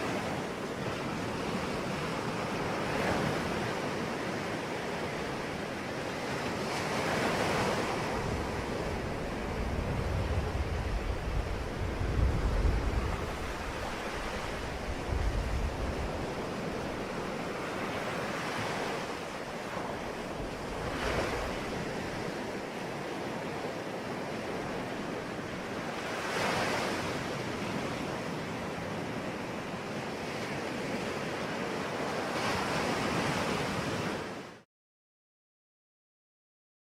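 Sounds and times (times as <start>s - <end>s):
sea waves breaking: 0.0s - 34.6s.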